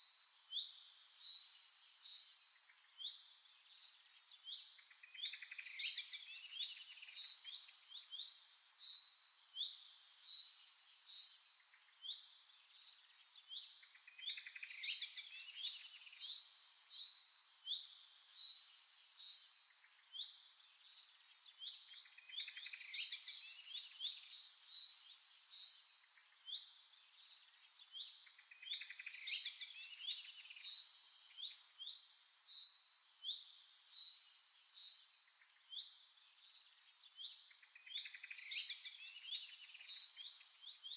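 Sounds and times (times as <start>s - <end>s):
birds chirping and trilling: 4.4s - 40.9s.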